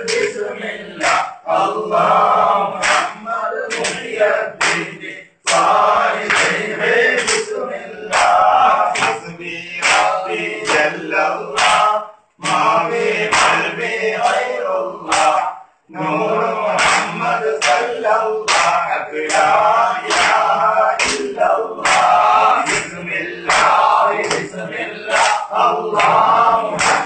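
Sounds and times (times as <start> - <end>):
men chanting together: 0.0 - 27.0.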